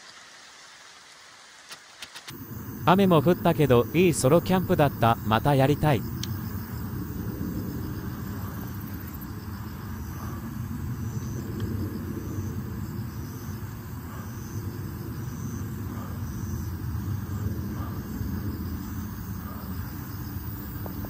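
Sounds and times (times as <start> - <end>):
insects chirping: 0.0 - 21.0
low outdoor rumble: 2.3 - 21.0.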